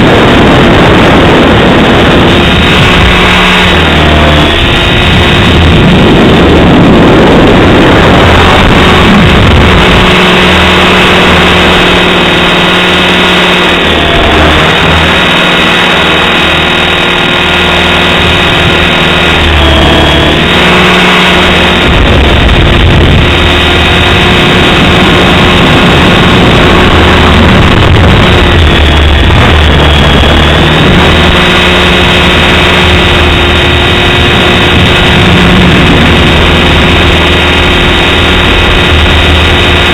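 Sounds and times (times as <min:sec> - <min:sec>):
rc helicopter motor whine: 0:00.0 - 0:39.9
wind rumble on microphone: 0:00.0 - 0:39.9.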